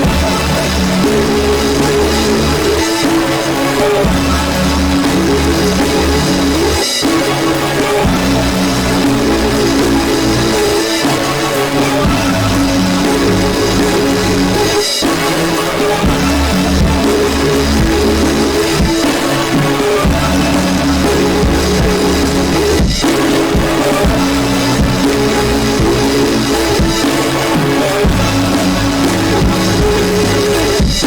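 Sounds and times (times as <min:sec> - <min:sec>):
loud dense recorded music: 0:00.0 - 0:31.0.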